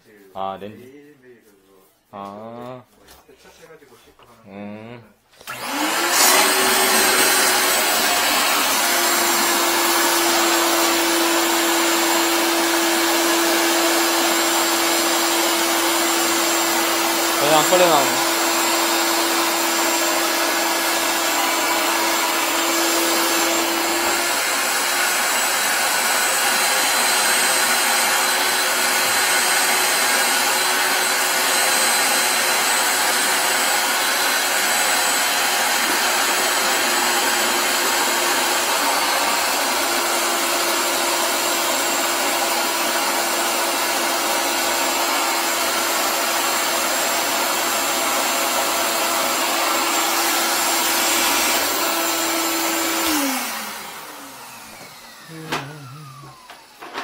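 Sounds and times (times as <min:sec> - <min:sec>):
shop vacuum humming and whining: 0:05.4 - 0:57.0.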